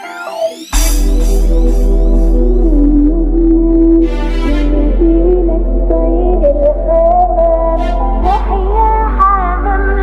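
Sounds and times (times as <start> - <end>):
slow wavering melody over bass: 0.8 - 10.0.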